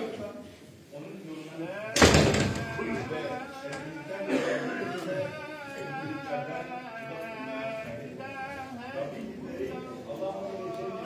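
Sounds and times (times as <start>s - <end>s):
man chanting melodically: 1.7s - 11.0s.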